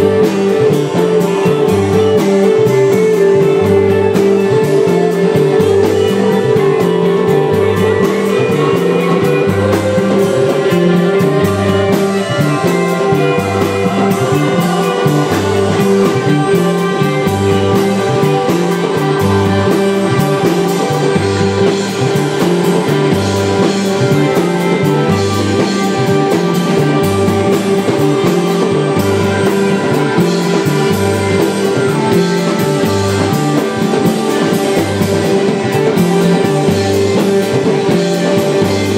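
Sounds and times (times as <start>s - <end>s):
bass guitar: 0.0s - 38.9s
drums: 0.0s - 38.9s
electric guitars: 0.0s - 38.9s.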